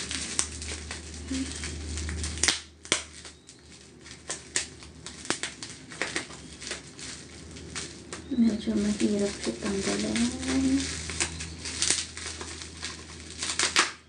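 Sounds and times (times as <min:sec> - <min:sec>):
plastic wrapping crackling: 0:00.0 - 0:14.0.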